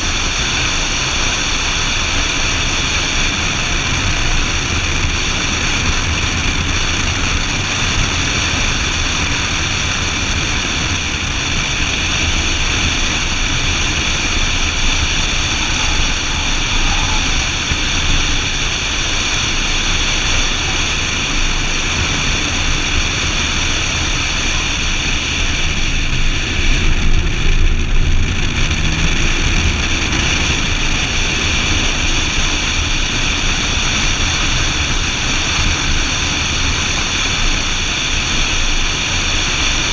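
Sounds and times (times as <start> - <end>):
car engine running hard: 0.0 - 39.9
wind noise: 0.0 - 39.9.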